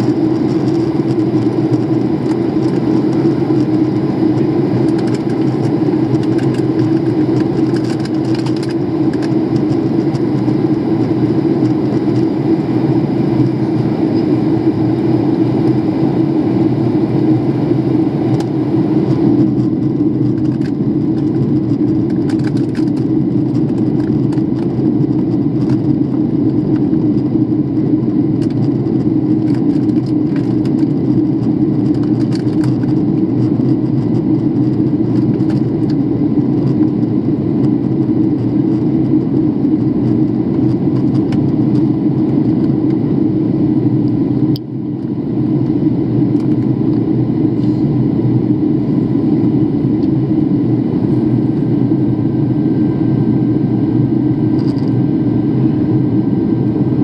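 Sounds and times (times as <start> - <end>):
airliner cabin drone: 0.0 - 57.0.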